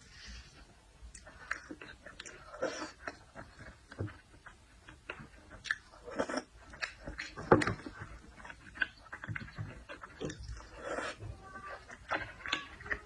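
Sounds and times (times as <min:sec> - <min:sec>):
mouth clicks and crunches: 0:00.0 - 0:13.0
seafood being chewed: 0:00.0 - 0:13.0.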